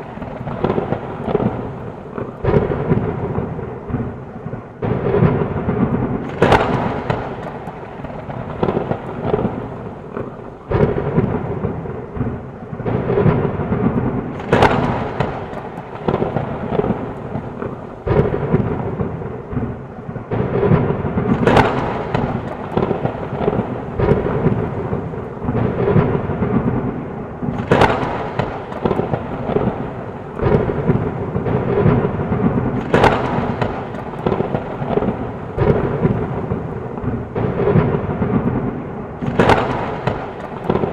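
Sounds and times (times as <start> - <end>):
sharp thunder cracks: 0.0 - 40.9
steady rain: 0.0 - 40.9
thunder rumbling: 0.0 - 40.9.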